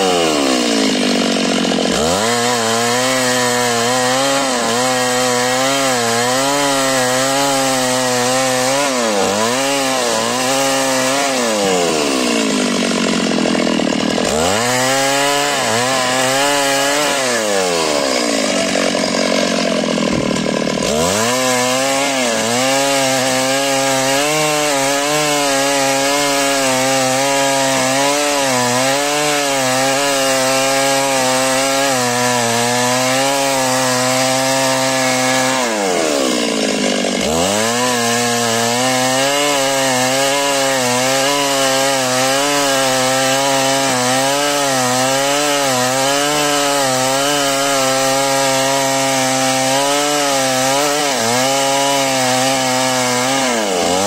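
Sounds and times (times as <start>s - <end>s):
chainsaw cutting timber: 0.0s - 54.0s.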